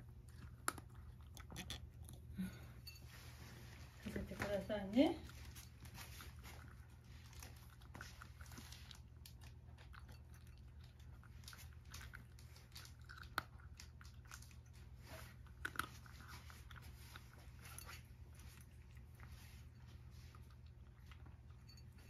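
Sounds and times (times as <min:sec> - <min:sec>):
cat crunching dry food: 0:00.0 - 0:02.4, 0:05.2 - 0:21.6
low steady hum: 0:00.0 - 0:22.0.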